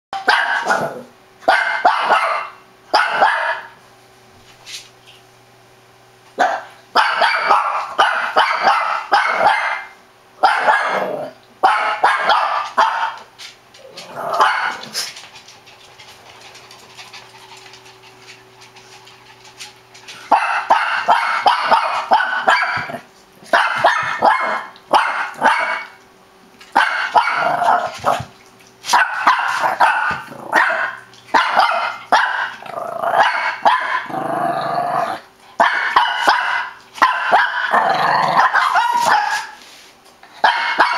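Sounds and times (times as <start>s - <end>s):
dog barking excitedly: 0.2s - 3.8s, 6.4s - 13.3s, 14.1s - 26.0s, 26.7s - 34.2s, 35.0s - 39.6s, 40.3s - 40.9s.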